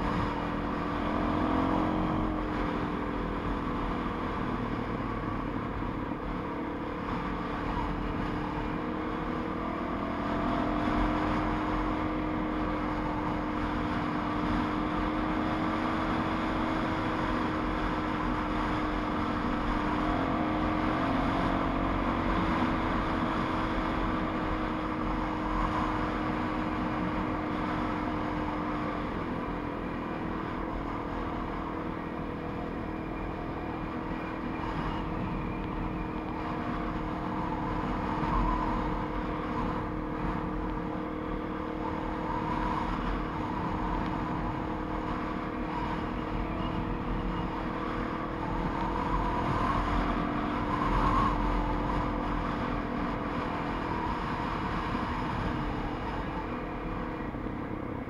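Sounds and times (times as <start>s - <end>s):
motorcycle engine cruising: 0.0s - 58.0s
wind noise on microphone: 10.4s - 58.0s.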